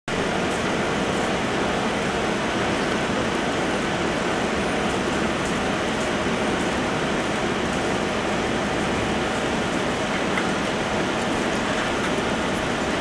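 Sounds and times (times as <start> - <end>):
outdoor background noise: 0.1 - 13.0.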